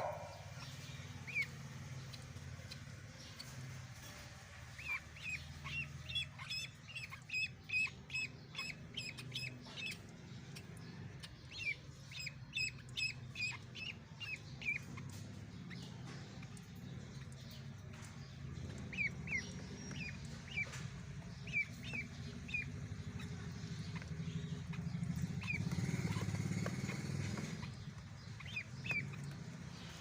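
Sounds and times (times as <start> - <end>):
duckling peeping: 0.0 - 30.0
steady low hum: 0.0 - 30.0.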